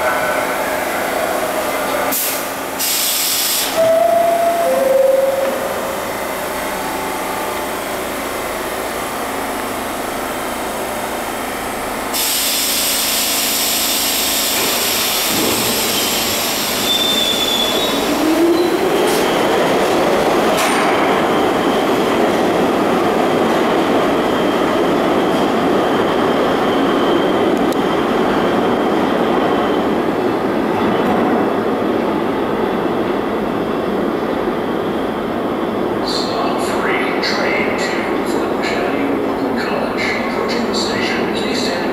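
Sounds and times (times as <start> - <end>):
subway train rumble: 0.0 - 41.9.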